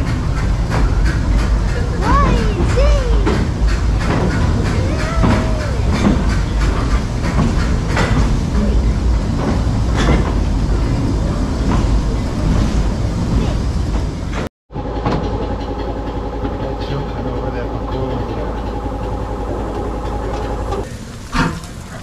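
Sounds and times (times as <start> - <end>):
clanks and knocks: 0.0 - 11.0, 11.6 - 21.7
steam locomotive rumble: 0.0 - 22.0.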